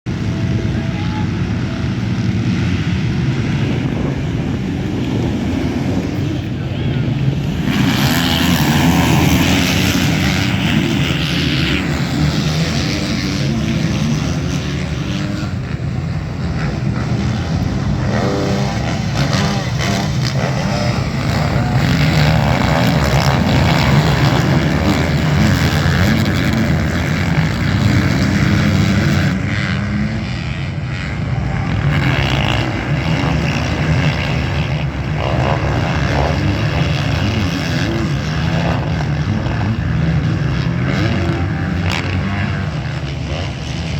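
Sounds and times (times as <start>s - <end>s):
motocross bike engines racing: 0.1s - 43.9s.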